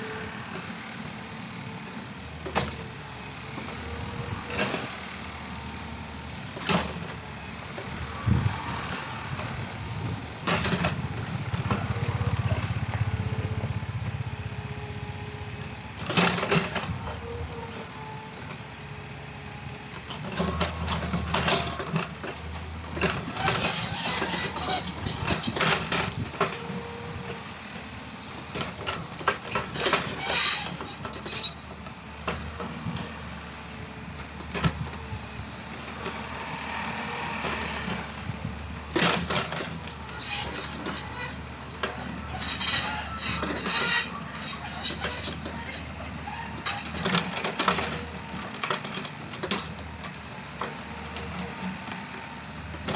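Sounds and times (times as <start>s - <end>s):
excavator diesel engine: 0.0s - 52.9s
excavator bucket clanking and scraping: 2.4s - 13.5s, 16.0s - 18.6s, 19.9s - 33.4s, 34.0s - 36.3s, 37.4s - 52.9s.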